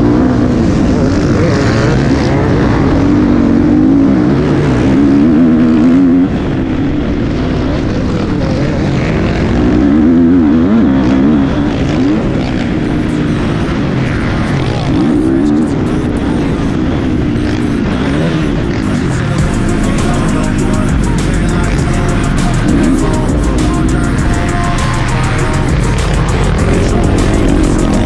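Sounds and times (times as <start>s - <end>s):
motocross bike engine revving: 0.0s - 28.0s.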